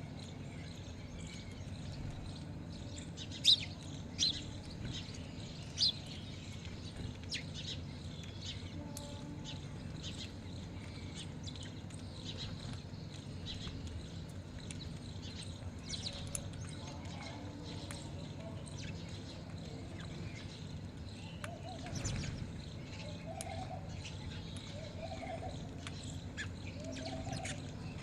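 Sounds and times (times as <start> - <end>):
birds chirping: 0.0 - 28.0
steady low hum: 0.0 - 28.0.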